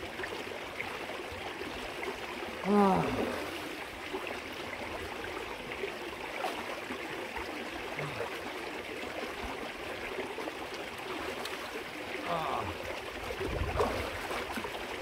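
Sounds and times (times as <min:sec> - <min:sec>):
creek water flowing over rock: 0:00.0 - 0:15.0
light water splashes: 0:00.0 - 0:15.0.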